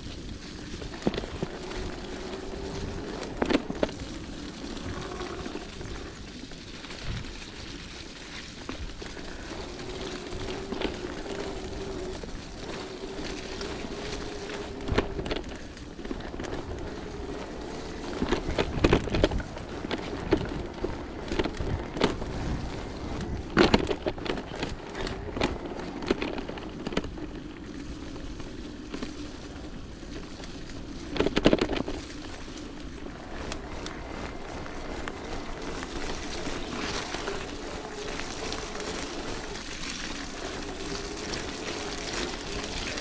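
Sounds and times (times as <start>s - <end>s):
bike rattling over bumps: 0.0s - 43.0s
steady whirring motor: 0.0s - 43.0s.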